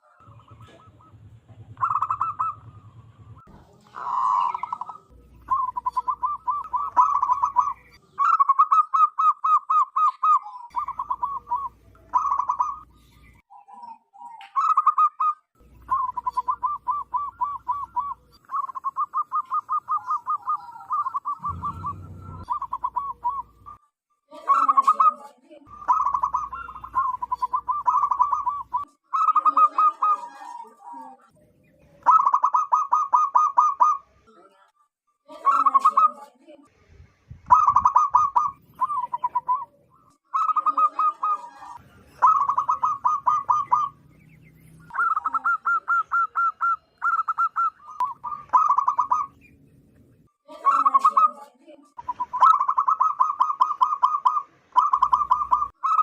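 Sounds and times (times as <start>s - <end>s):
doves cooing: 0.0s - 23.8s, 24.5s - 34.1s, 37.4s - 49.6s, 50.6s - 51.4s, 52.0s - 56.0s.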